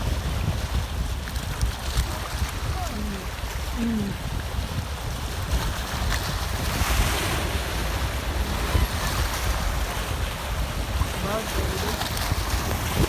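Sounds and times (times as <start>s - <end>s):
waves breaking on shore: 0.0s - 13.0s
wind buffeting microphone: 0.0s - 13.0s.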